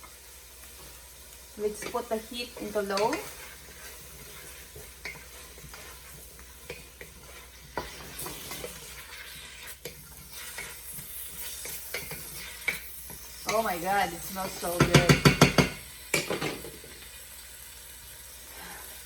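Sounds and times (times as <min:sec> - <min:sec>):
vegetables sizzling in a skillet: 0:00.0 - 0:19.0.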